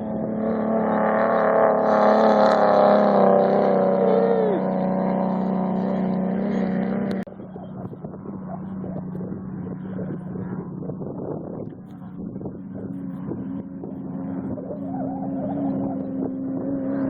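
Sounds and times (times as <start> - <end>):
race vehicle engine running: 0.0 - 17.0.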